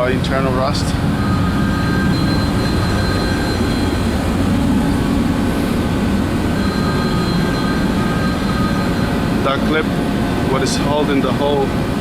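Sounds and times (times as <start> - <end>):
faint high whining tones: 0.0 - 12.0
machinery drone with low rumble: 0.0 - 12.0.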